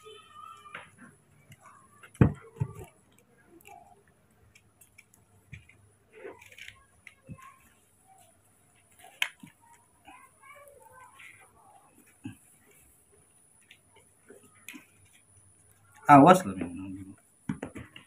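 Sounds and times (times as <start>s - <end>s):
small taps and rustles: 0.5s - 18.0s.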